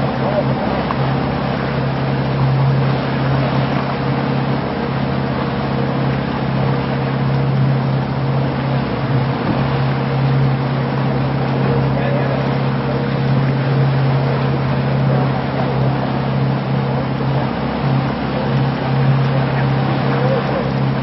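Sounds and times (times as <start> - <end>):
boat motor droning: 0.0 - 21.0.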